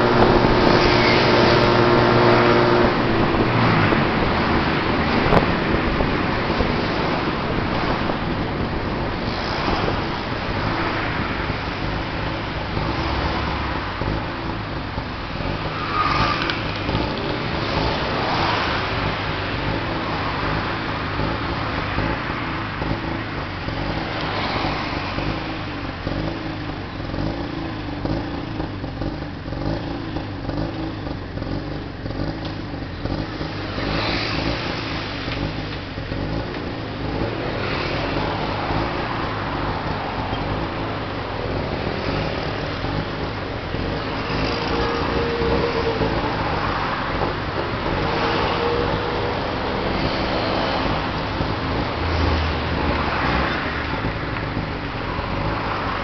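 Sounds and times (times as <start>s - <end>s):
cars and motorbikes passing: 0.0s - 56.0s.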